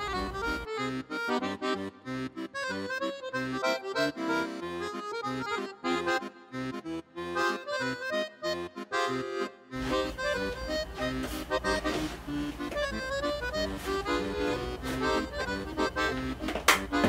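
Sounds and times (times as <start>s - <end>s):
lively accordion melody: 0.0s - 17.0s.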